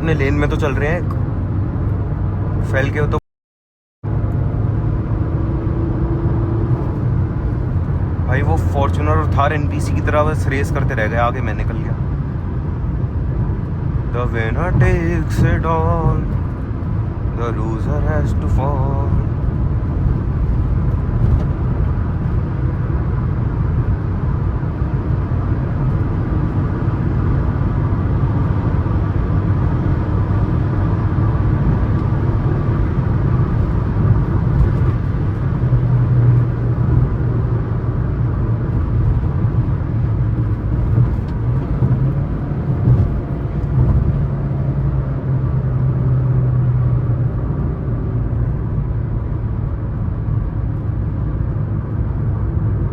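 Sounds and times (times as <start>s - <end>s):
diesel engine drone: 0.0s - 3.2s, 4.0s - 52.9s
tyre and road rumble: 4.1s - 52.9s.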